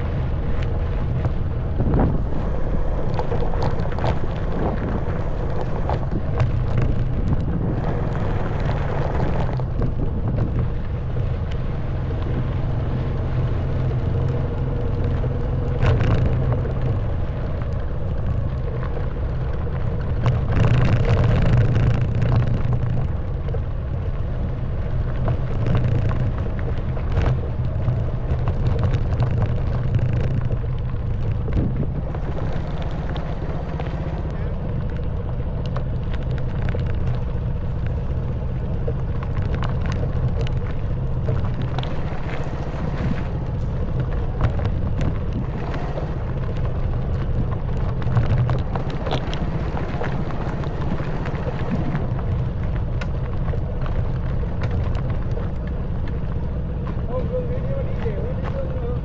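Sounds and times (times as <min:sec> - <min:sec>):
motorbike jolts: 0:00.0 - 0:57.6
motorbike engine running: 0:00.0 - 0:59.0
tyres crunching on gravel: 0:00.0 - 0:59.0.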